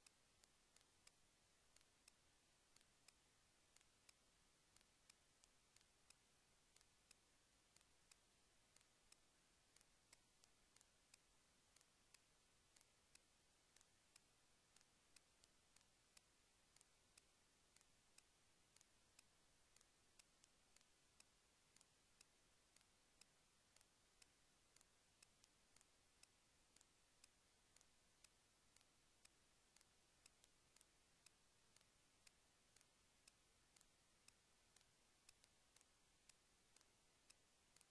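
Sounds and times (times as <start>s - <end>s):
faint regular ticking: 0.0s - 37.9s.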